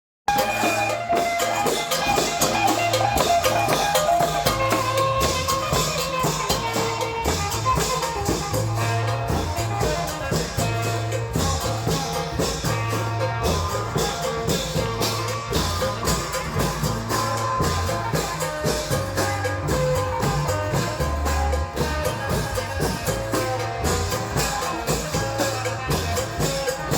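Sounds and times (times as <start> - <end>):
cymbals: 0.3 - 26.9
fast drum strokes: 0.3 - 26.9
held melodic line: 0.3 - 26.9
pulsing bass: 2.3 - 26.9.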